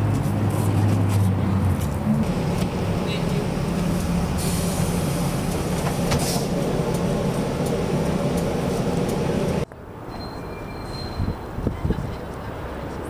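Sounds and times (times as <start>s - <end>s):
street background: 0.0s - 13.0s
trolleybus hum and rattle: 0.0s - 13.0s.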